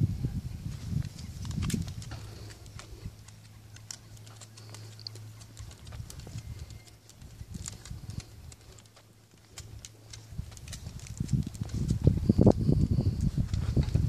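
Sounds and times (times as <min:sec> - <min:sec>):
footsteps on brick: 0:00.9 - 0:12.3.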